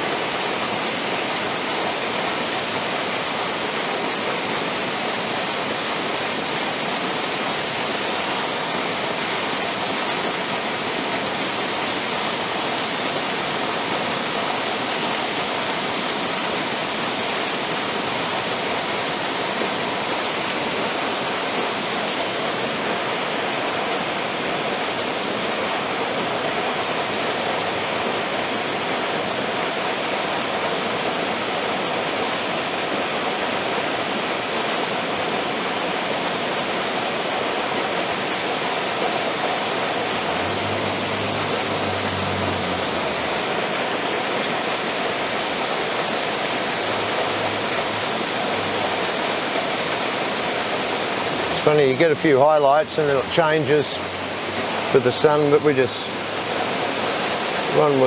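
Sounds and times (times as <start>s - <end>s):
waterfall pouring: 0.0s - 58.0s.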